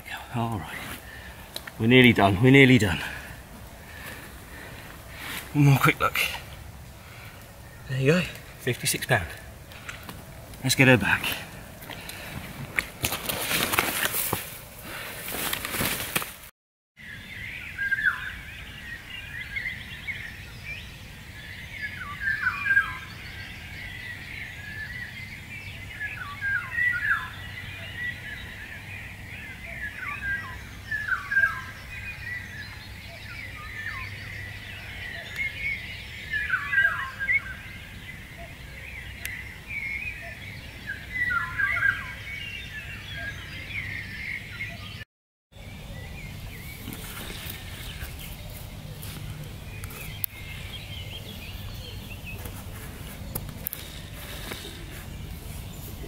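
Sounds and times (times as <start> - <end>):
birds chirping: 0.0 - 16.2, 17.0 - 56.0.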